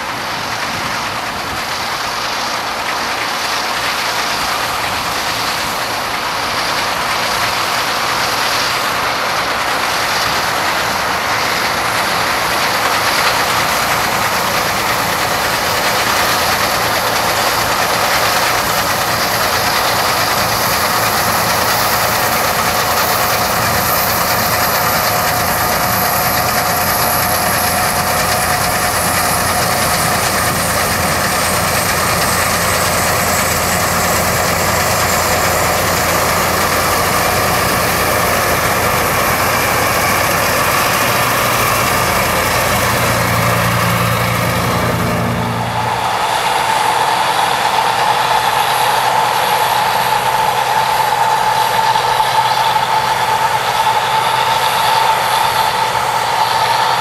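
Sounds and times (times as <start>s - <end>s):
combine harvester drone: 0.0s - 57.0s
threshing gear whine: 11.3s - 57.0s.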